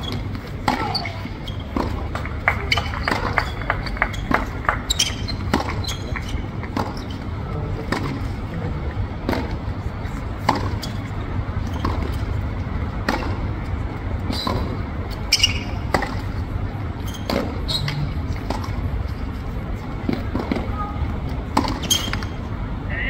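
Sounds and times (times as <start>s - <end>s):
rackets striking tennis ball: 0.0s - 8.4s, 9.1s - 22.5s
tennis ball bouncing: 0.0s - 22.5s
steady low rumble: 0.0s - 23.0s.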